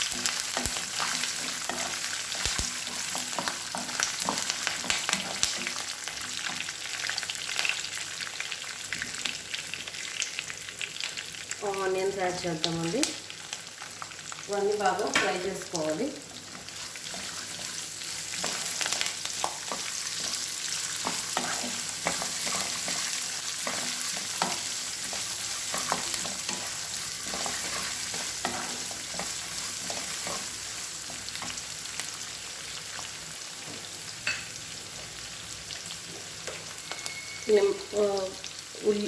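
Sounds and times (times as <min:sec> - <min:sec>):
onions sizzling in oil: 0:00.0 - 0:39.0.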